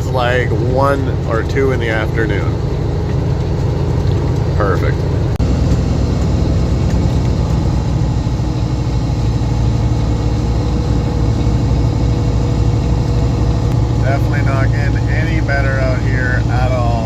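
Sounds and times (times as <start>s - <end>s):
diesel truck engine drone: 0.0s - 17.0s
road noise: 0.0s - 17.0s.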